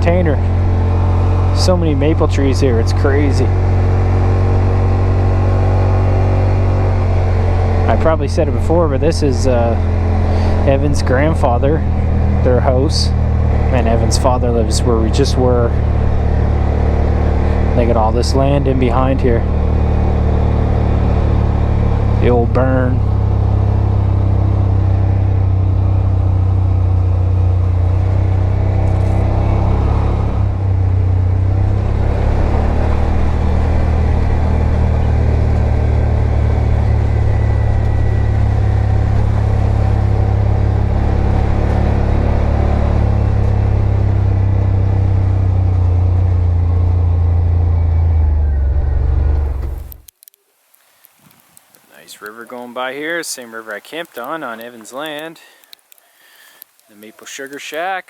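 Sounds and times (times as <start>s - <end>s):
vehicle engine droning: 0.0s - 50.1s.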